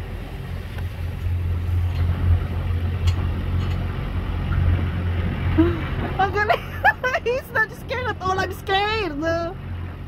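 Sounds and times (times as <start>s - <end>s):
boat engine humming: 0.0s - 10.0s
rushing water: 0.0s - 10.0s
wind: 0.0s - 10.0s.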